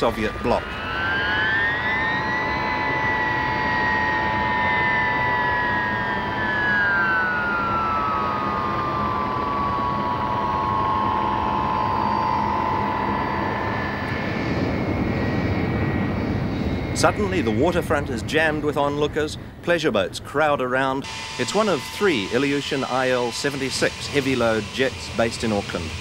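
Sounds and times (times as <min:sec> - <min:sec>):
jet engines running with whine: 0:00.0 - 0:26.0.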